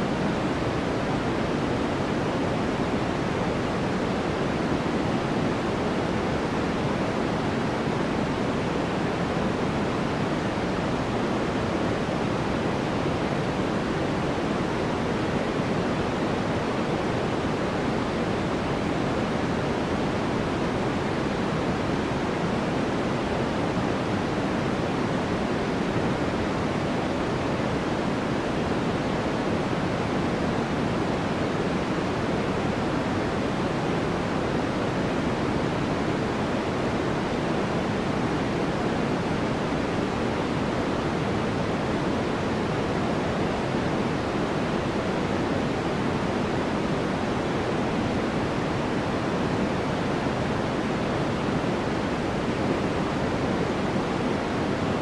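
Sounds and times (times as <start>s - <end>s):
steady white noise hiss: 0.0s - 55.0s.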